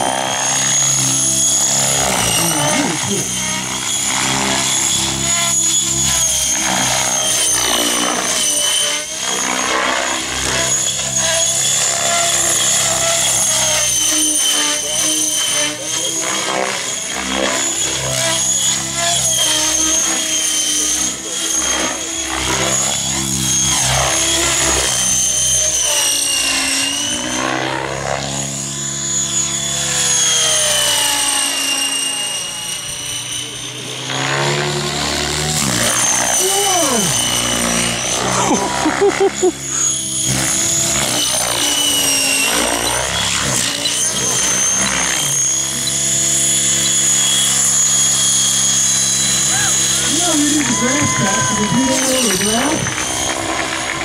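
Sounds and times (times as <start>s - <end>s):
rc helicopter motor whine: 0.0s - 54.0s
rotor blades beating: 0.0s - 54.0s.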